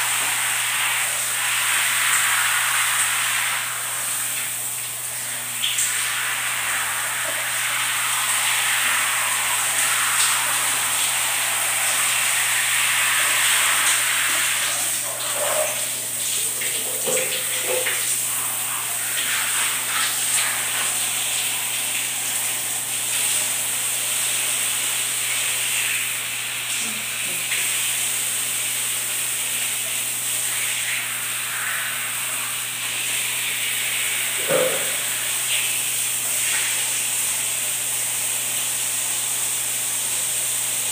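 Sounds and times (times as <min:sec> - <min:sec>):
shower water spraying and splashing: 0:00.0 - 0:40.9.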